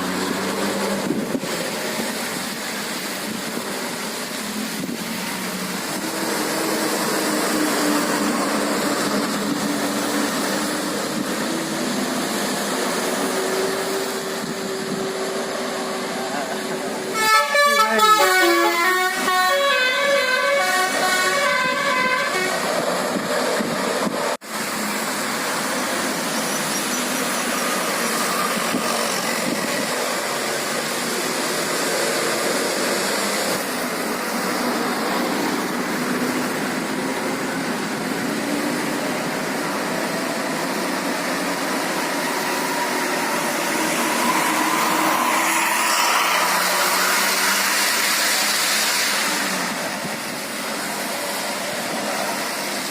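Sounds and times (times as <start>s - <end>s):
bus engine and road noise: 0.0s - 52.9s.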